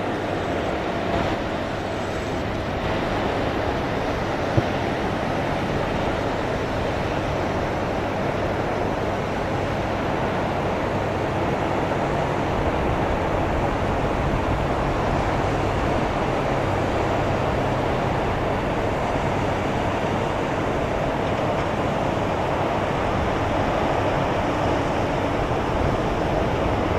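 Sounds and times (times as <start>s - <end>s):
jet engines rushing: 0.0s - 26.9s.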